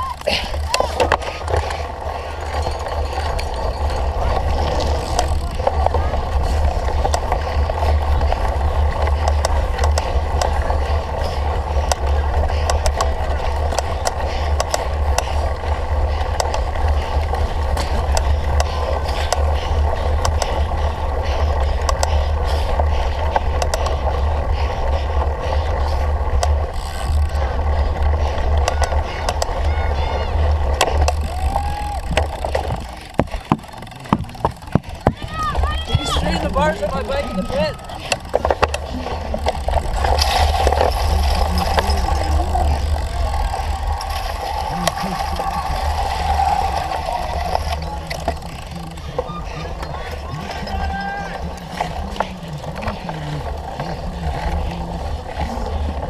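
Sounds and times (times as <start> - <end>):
bike rattling clicks: 0.0 - 56.0
bike tyre noise: 0.0 - 56.0.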